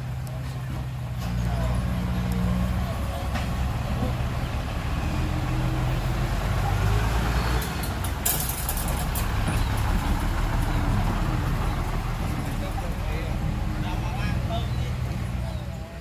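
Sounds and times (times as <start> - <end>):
heavy diesel engine drone: 0.0 - 16.0.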